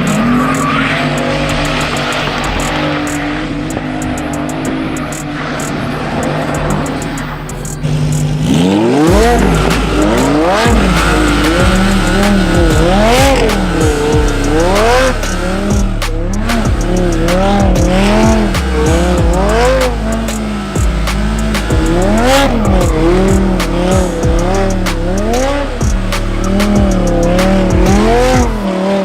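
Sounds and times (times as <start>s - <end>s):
car engine revving: 0.0s - 29.0s
tires squealing: 0.0s - 29.0s.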